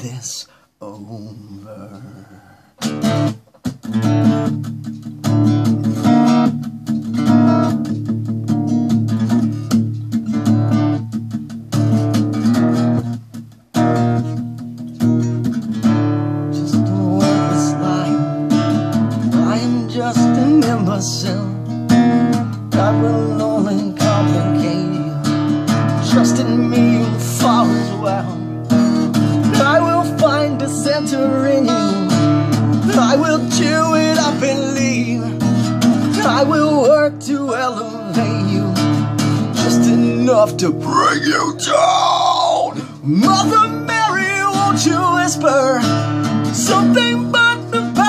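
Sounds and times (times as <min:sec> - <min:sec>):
acoustic guitar strumming: 0:02.7 - 0:48.0.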